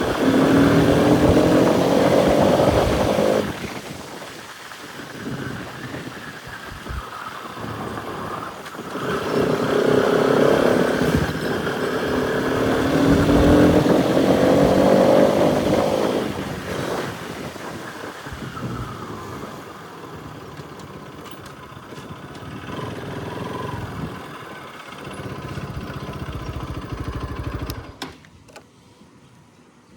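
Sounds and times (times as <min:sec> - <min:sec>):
motorcycle engine accelerating: 0:00.0 - 0:04.2, 0:05.2 - 0:28.1.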